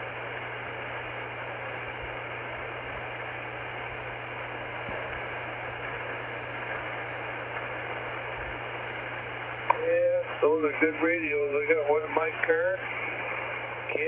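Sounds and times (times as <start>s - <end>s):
low hum: 0.0s - 14.0s
radio static hiss: 0.0s - 14.0s.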